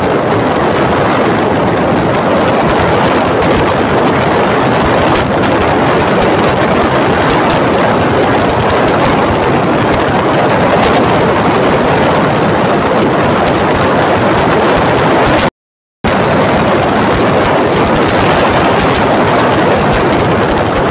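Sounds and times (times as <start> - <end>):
motorcycle engine: 0.0 - 15.5, 16.1 - 20.9
road noise: 0.0 - 15.5, 16.1 - 20.9
wind rushing over microphone: 0.0 - 15.5, 16.1 - 20.9.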